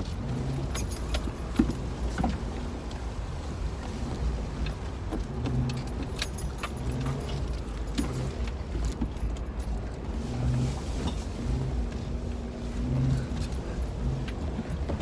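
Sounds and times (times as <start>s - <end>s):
off-road vehicle engine rumble: 0.0s - 15.0s.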